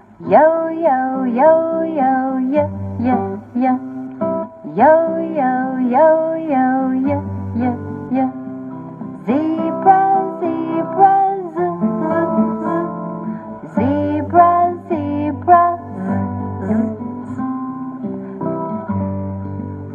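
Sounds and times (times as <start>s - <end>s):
person singing: 0.0s - 18.9s
acoustic guitar: 0.0s - 19.9s.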